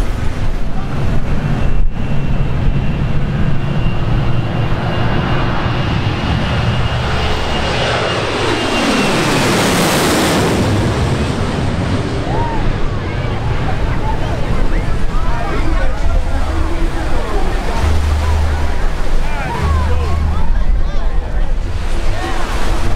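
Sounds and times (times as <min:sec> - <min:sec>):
jet airliner engine rumble: 0:00.0 - 0:22.9
jet fan whine: 0:00.0 - 0:22.9.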